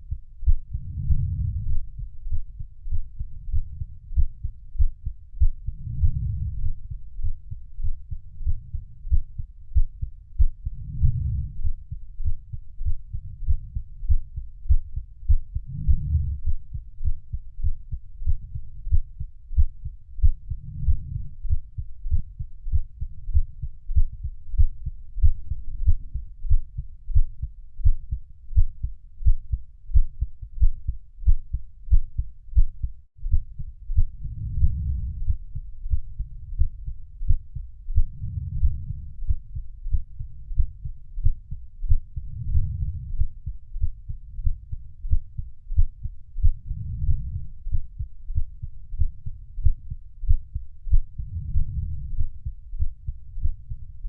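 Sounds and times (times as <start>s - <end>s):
heartbeat thumps: 0.0s - 54.0s.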